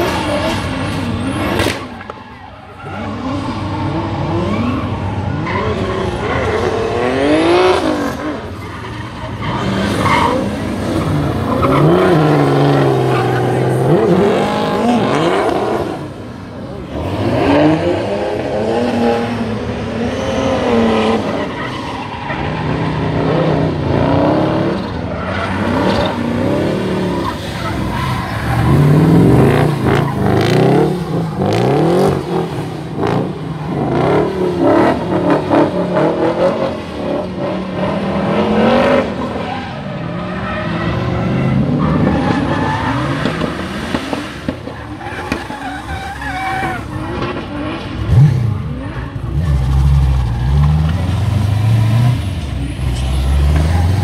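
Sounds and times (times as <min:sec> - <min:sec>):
car engines revving: 0:00.0 - 0:54.0
tyres skidding and squealing: 0:00.0 - 0:54.0.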